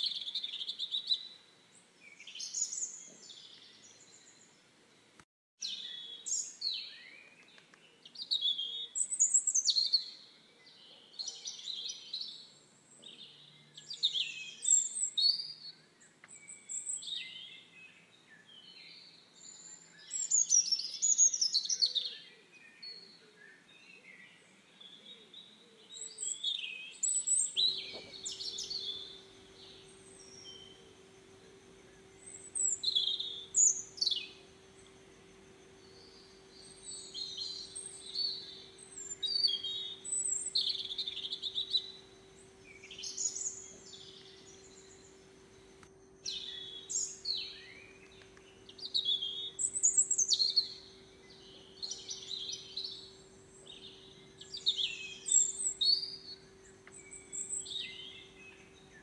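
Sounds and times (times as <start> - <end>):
small birds singing and chirping: 0.0 - 59.0.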